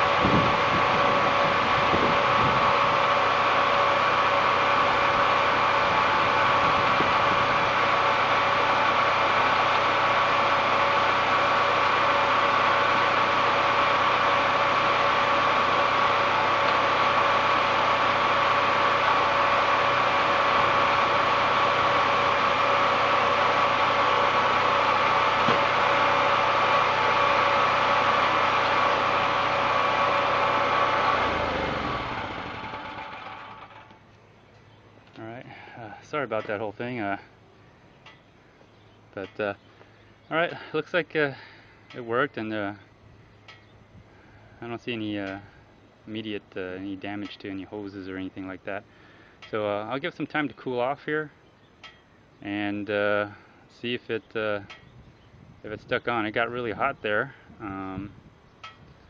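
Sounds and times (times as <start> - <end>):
generator engine humming: 0.0 - 59.0.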